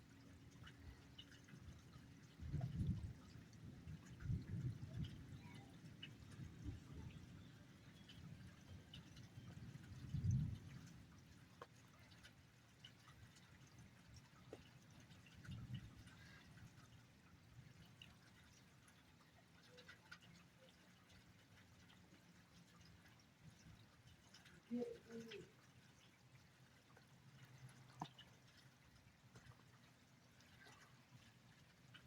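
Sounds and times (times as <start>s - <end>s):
rain dripping and trickling: 0.0s - 32.0s.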